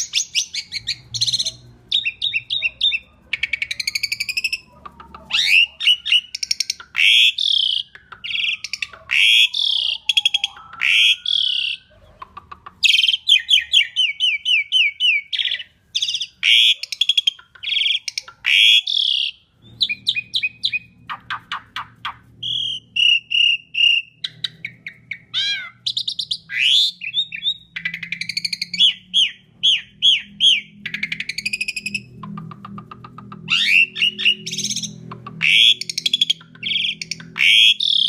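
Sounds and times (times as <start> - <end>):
starling singing: 0.0 - 38.0.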